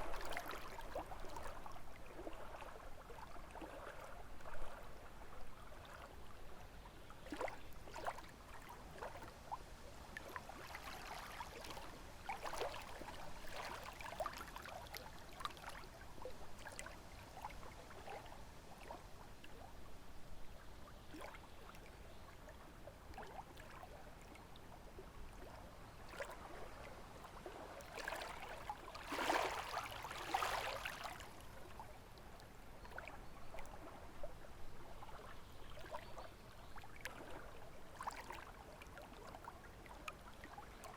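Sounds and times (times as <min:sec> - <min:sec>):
lake waves lapping at shore: 0:00.0 - 0:06.4, 0:07.0 - 0:09.3, 0:10.0 - 0:19.6, 0:23.1 - 0:36.2, 0:36.8 - 0:40.9.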